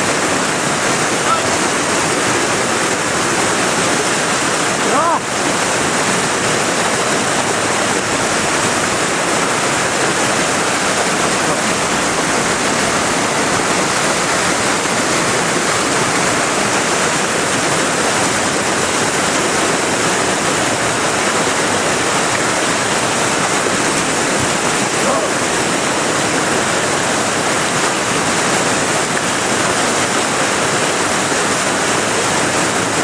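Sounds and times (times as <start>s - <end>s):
whitewater rushing: 0.0s - 33.0s.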